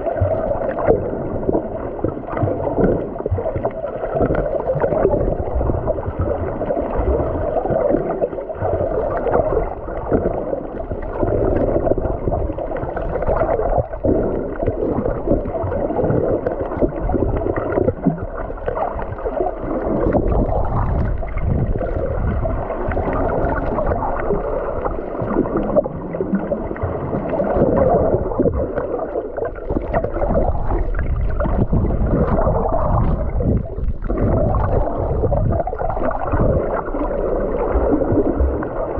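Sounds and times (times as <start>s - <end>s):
water gurgling underwater: 0.0s - 38.9s.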